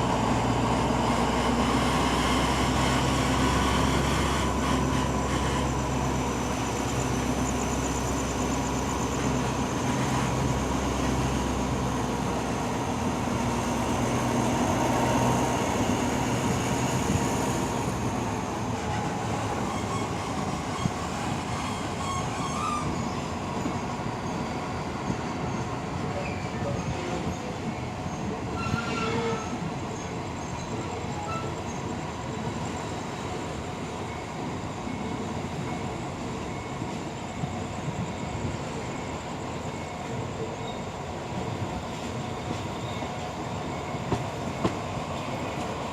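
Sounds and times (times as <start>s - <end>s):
diesel locomotive engine hum: 0.0s - 45.9s
train wheels rolling on rails: 0.0s - 45.9s.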